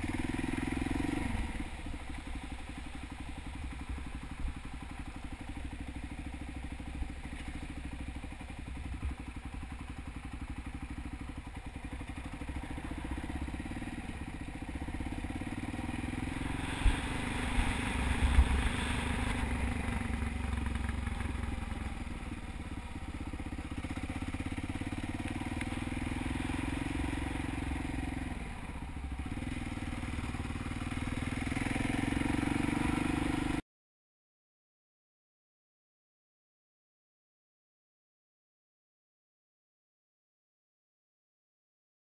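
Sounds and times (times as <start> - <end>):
motorcycle engine running: 0.0 - 33.6.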